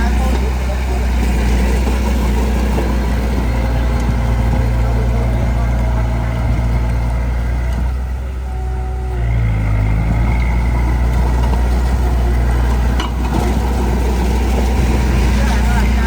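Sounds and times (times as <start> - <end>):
heavy machine diesel engine: 0.0 - 16.0.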